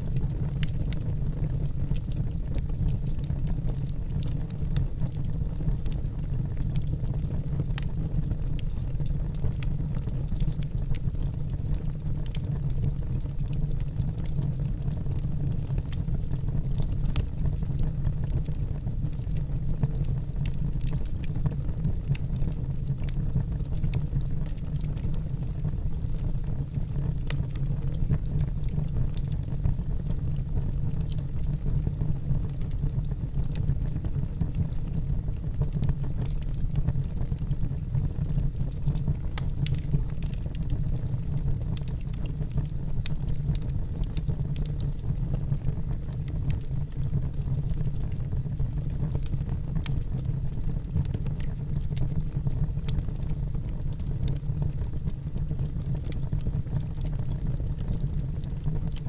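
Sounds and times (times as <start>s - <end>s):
fire low rumble: 0.0s - 59.0s
wood fire crackling and popping: 0.0s - 59.0s.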